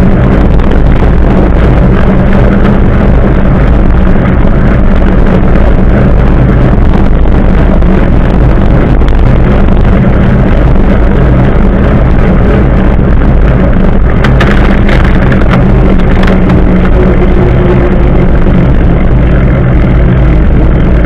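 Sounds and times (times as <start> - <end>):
bicycle tyre rolling on asphalt: 0.0 - 21.0
wind rushing over microphone: 0.0 - 21.0.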